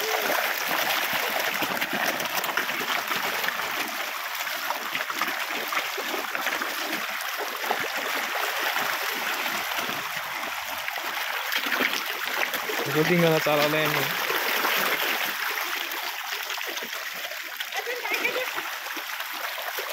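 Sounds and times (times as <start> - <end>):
fish splashing at water surface: 0.0 - 19.9.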